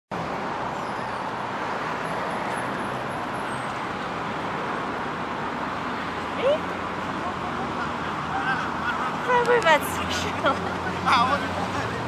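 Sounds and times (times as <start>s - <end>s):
city road traffic hum: 0.1s - 12.0s.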